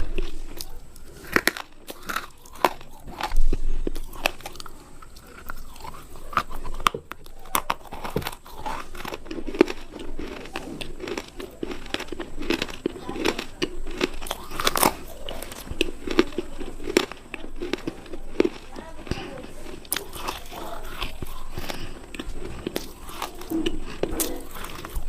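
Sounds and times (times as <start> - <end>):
crunchy bites: 0.0 - 25.0
rhythmic chewing: 0.0 - 25.0.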